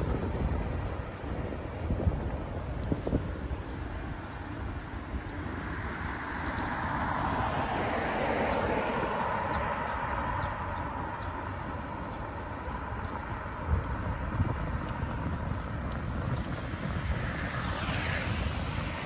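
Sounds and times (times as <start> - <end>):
road traffic noise: 0.0 - 19.0
wind buffeting microphone: 0.0 - 19.0.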